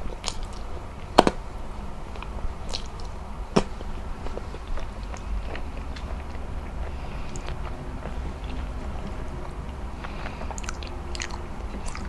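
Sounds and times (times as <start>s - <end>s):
wet chewing and mouth clicks: 0.0s - 0.7s, 2.1s - 12.0s.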